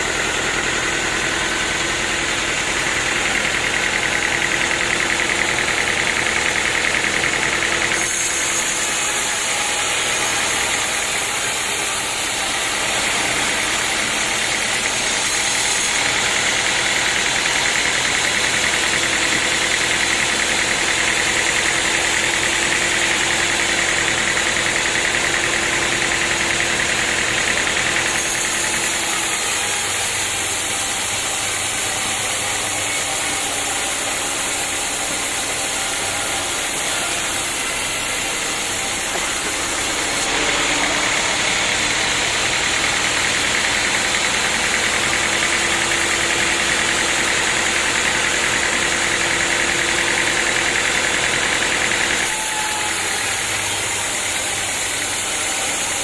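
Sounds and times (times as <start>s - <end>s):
steady mechanical whine: 0.0s - 54.1s
sawmill machinery running: 0.0s - 56.0s.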